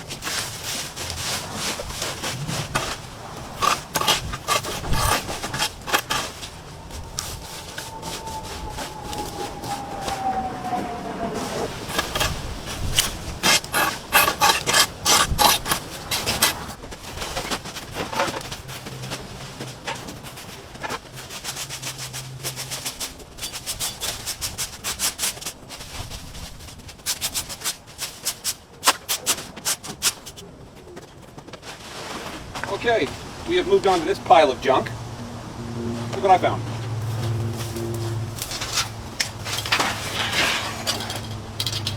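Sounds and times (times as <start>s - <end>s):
yard debris clattering and scraping: 0.0s - 41.9s.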